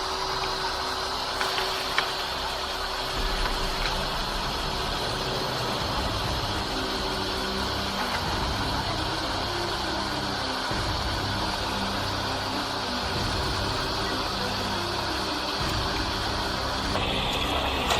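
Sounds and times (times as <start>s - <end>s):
engine running: 0.0s - 17.9s.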